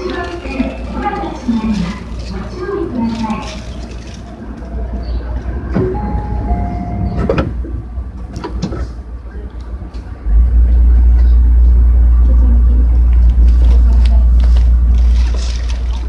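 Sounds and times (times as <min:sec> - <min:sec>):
loud low train rumble: 0:00.0 - 0:16.0
train interior hum: 0:00.0 - 0:16.0.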